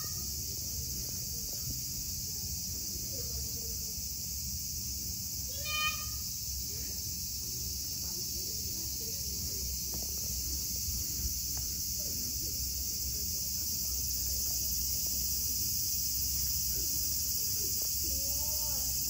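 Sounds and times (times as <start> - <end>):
faint low outdoor rumble: 0.0 - 19.0
insect chorus drone: 0.0 - 19.0.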